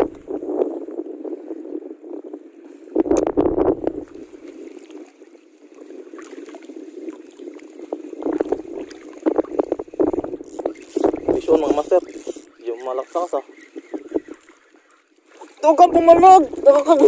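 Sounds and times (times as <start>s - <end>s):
wind buffeting microphone: 0.0s - 14.8s, 15.6s - 17.0s
water lapping against boat hull: 2.9s - 17.0s.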